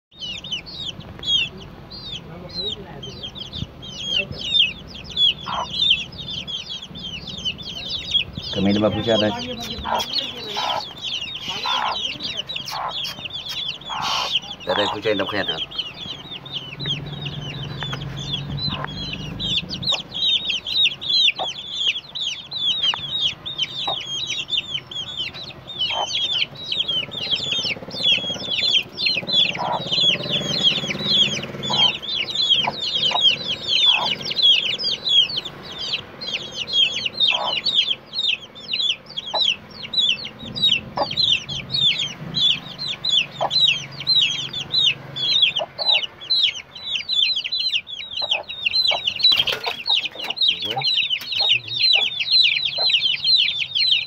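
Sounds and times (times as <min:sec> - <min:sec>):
chicks peeping: 0:00.1 - 0:54.0
hen clucking: 0:00.2 - 0:54.0.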